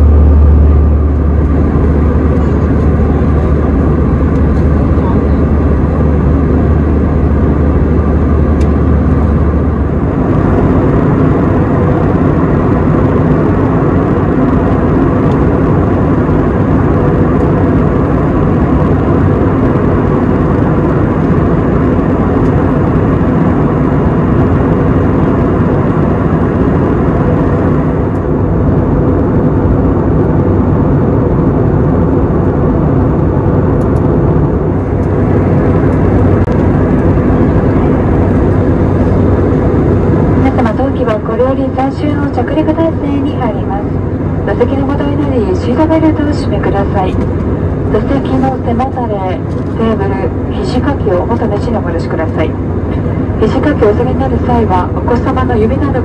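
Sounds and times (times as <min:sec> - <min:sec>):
air rushing along fuselage: 0:00.0 - 0:56.0
jet engine hum: 0:00.0 - 0:56.0.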